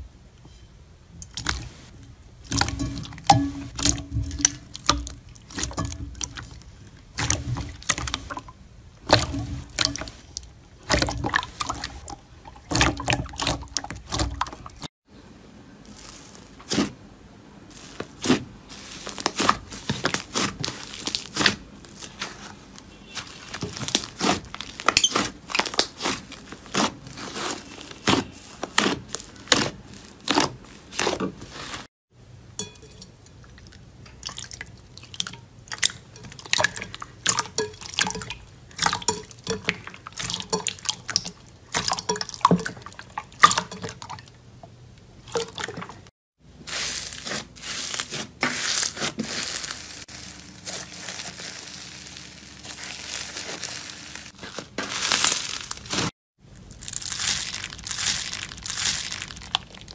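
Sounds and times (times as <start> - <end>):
hands squelching slime: 1.2 - 14.9, 17.7 - 31.9, 33.2 - 44.4, 45.0 - 59.9.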